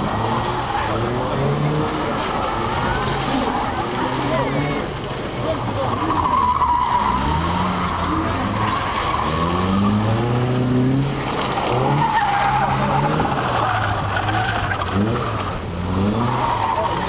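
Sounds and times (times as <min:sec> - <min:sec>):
car engine revving: 0:00.0 - 0:17.0
tyres squealing: 0:00.0 - 0:17.0.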